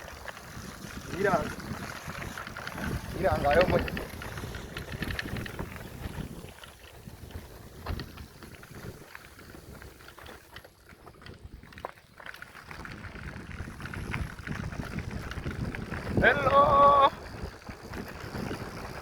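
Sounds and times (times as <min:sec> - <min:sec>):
wind buffeting microphone: 0:00.0 - 0:11.9, 0:12.6 - 0:19.0
bicycle rumbling in motion: 0:00.0 - 0:19.0.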